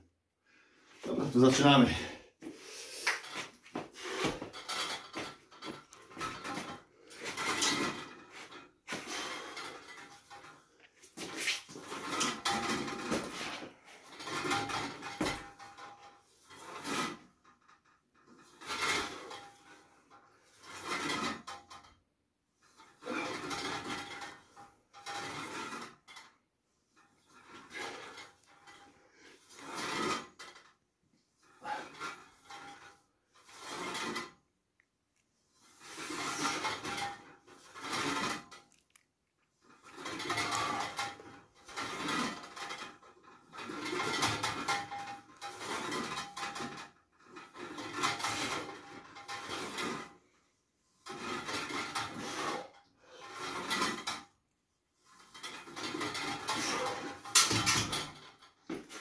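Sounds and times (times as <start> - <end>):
cable running over pulleys: 3.0 - 17.4, 22.6 - 34.4, 35.4 - 38.8, 39.5 - 54.4, 55.0 - 59.0.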